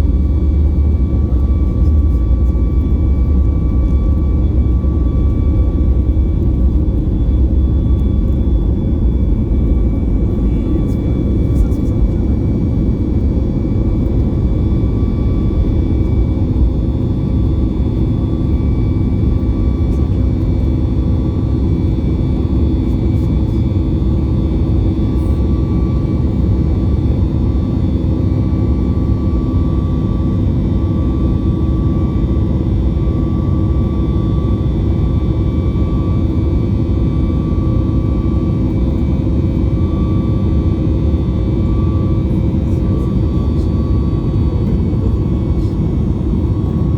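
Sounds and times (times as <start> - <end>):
jet engine whine: 0.0 - 46.9
jet engines rumbling in cabin: 0.0 - 46.9.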